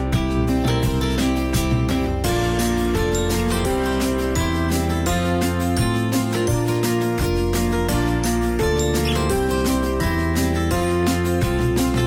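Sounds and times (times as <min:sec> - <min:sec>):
instrumental music with plucked guitar: 0:00.0 - 0:12.0.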